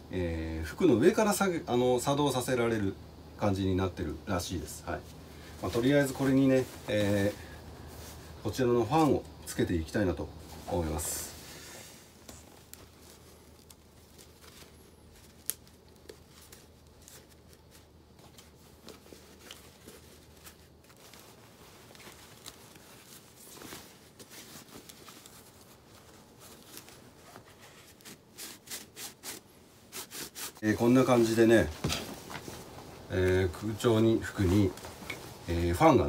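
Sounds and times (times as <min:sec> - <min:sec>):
cloth rustling: 0:04.5 - 0:36.0.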